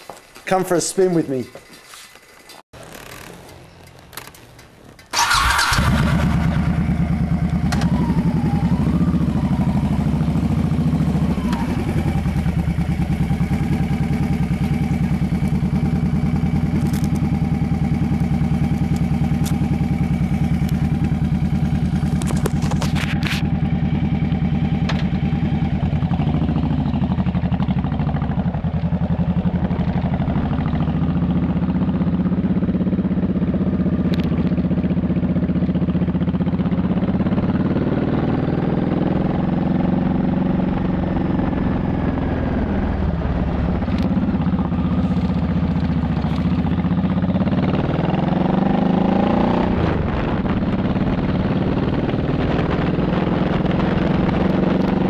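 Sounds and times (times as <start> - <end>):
motorcycle engine running: 2.3 - 55.0.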